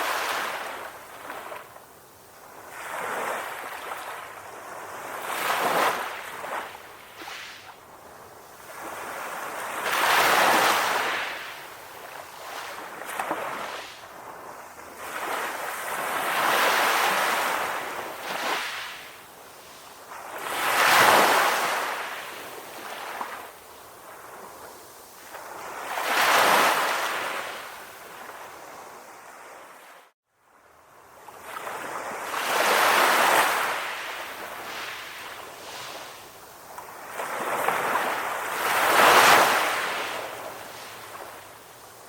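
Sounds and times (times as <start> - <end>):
sea waves washing in and out: 0.0 - 42.0.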